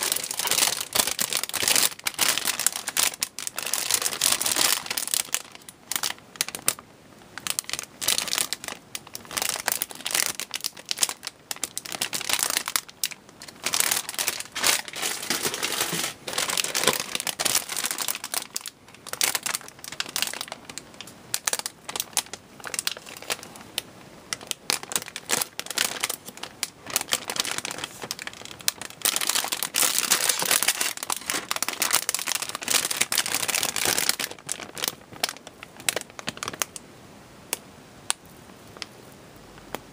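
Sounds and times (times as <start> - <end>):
plastic bags crinkling: 0.0 - 36.8.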